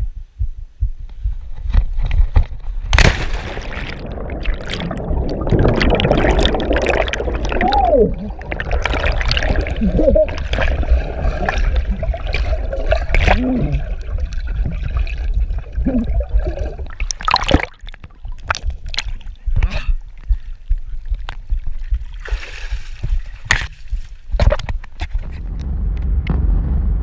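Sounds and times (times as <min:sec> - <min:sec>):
muffled underwater river rushing: 0:02.8 - 0:24.5
water splashes: 0:02.9 - 0:24.6.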